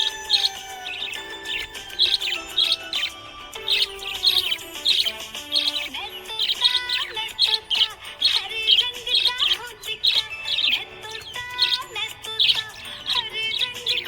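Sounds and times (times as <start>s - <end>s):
background music: 0.0s - 14.0s
budgerigar chirping: 0.0s - 14.0s.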